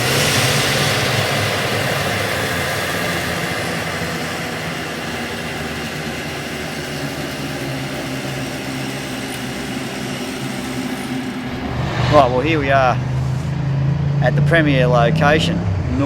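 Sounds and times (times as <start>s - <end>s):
road or wind noise: 0.0s - 16.0s
vehicle engine running: 0.0s - 16.0s.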